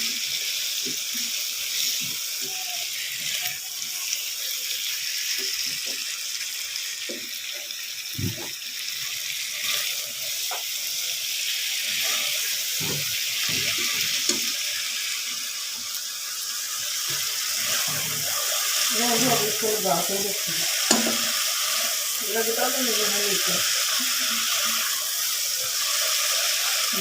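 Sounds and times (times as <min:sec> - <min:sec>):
watery hiss: 0:00.0 - 0:27.0.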